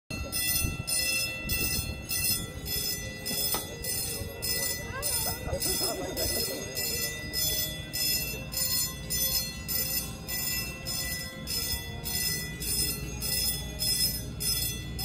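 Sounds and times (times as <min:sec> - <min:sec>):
railroad crossing bell ringing: 0:00.1 - 0:15.0.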